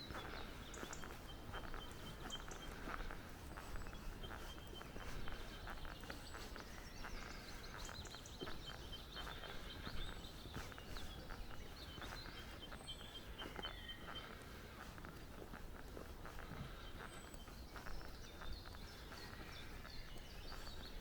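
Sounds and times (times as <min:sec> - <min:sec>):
footstep clicks on path: 0:00.0 - 0:21.0
small birds chirping and twittering: 0:00.0 - 0:21.0.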